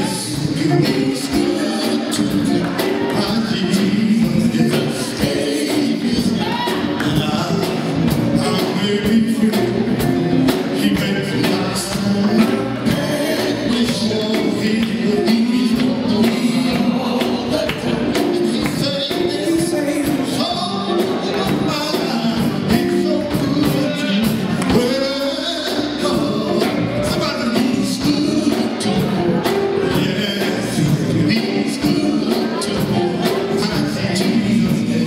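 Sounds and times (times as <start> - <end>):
bass guitar: 0.0 - 35.0
electric guitar: 0.0 - 35.0
men singing: 0.0 - 35.0.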